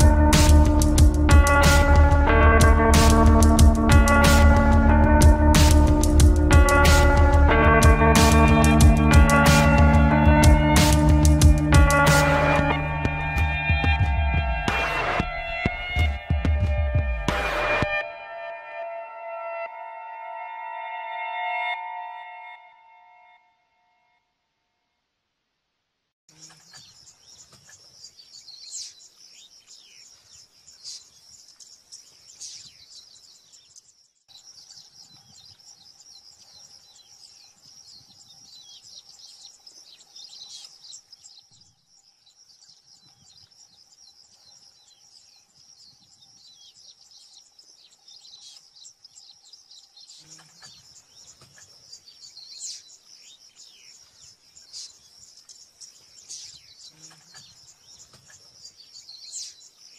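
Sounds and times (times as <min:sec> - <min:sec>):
small birds chirping chorus: 0:00.0 - 0:18.0, 0:26.3 - 0:59.9.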